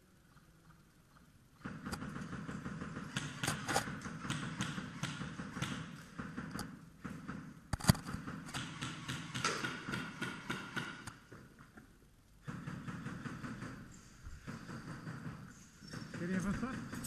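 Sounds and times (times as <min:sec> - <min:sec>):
airsoft guns firing: 0:01.6 - 0:11.2, 0:12.4 - 0:17.0.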